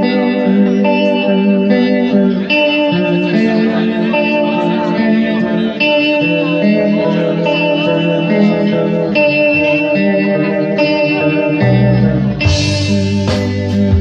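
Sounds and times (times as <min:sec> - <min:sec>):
guitar chords: 0:00.0 - 0:14.0.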